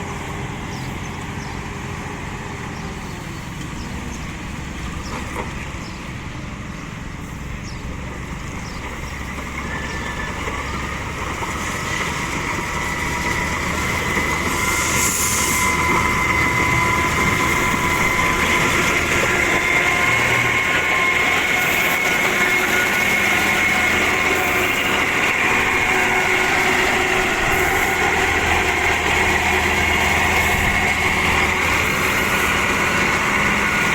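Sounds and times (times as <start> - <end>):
heavy construction machinery engine: 0.0 - 33.9.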